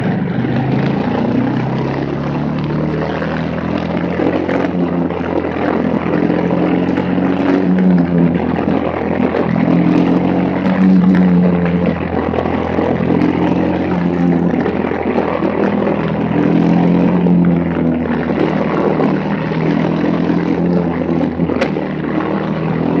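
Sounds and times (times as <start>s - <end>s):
kart engine revving: 0.0s - 23.0s.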